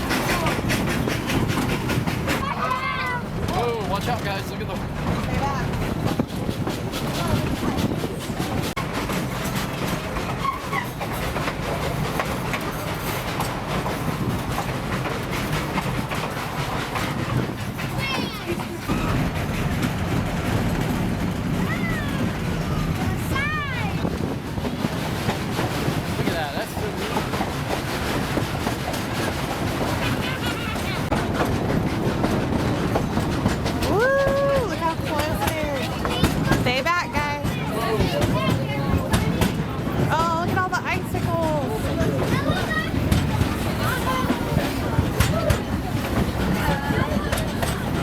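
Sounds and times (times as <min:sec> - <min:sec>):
train wheels rattling over rails: 0:00.0 - 0:48.0.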